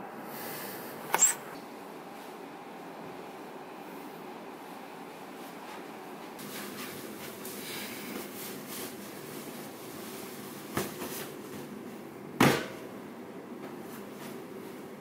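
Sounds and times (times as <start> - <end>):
room noise: 0.0 - 12.1.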